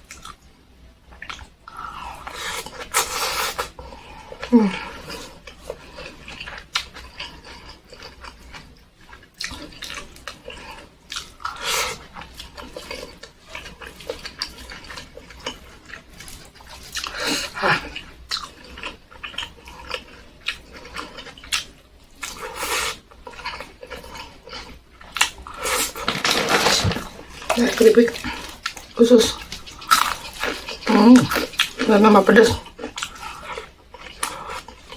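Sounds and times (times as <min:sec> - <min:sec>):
person chewing food: 0:00.0 - 0:00.5, 0:01.1 - 0:34.9.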